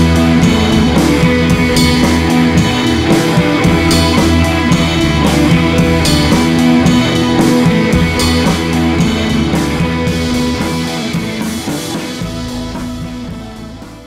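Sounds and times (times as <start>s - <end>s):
music with a steady beat: 0.0s - 14.0s.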